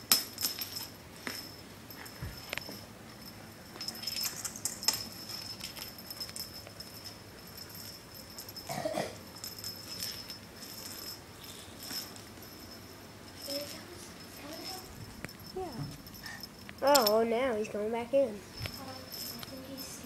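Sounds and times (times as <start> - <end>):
toy rattling and jingling: 0.0 - 20.0.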